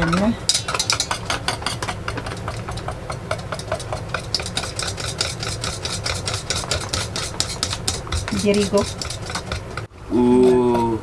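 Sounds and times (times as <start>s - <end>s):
steady low hum: 0.0s - 11.0s
whisk beating batter in bowl: 0.0s - 11.0s.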